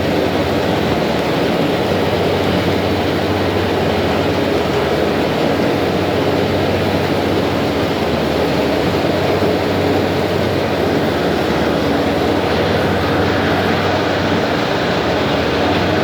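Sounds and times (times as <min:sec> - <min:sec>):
boat engines droning: 0:00.0 - 0:16.0
water rushing: 0:00.0 - 0:16.0.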